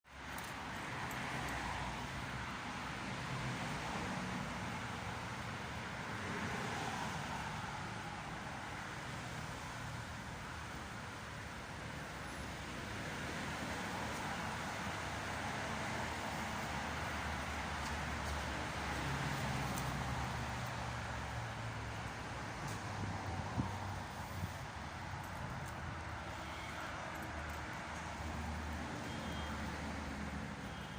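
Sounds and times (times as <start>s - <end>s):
road traffic noise: 0.0s - 30.9s.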